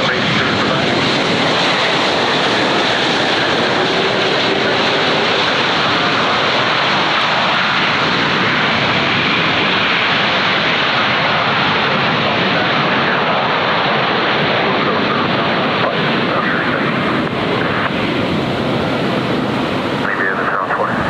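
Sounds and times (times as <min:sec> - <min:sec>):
jet airliner engines passing: 0:00.0 - 0:21.0.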